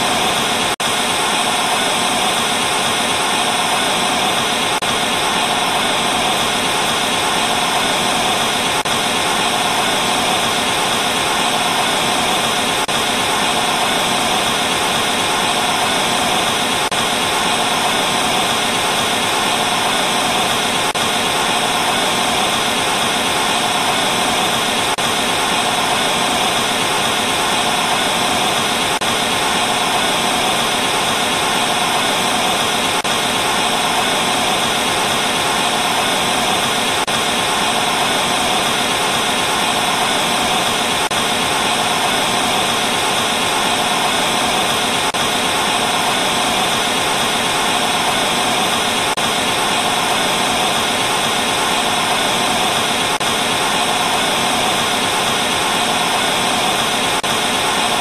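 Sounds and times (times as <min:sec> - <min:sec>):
television static hiss: 0:00.0 - 0:58.0.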